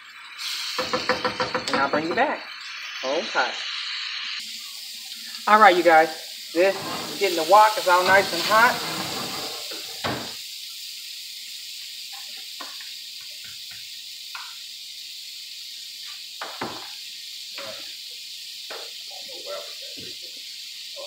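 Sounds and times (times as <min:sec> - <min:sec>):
butter sizzling in a wok: 0:00.0 - 0:21.0.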